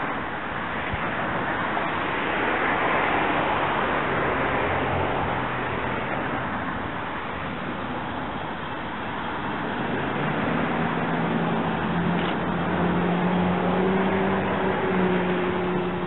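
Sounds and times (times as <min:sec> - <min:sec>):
vehicle humming: 0:00.0 - 0:16.0.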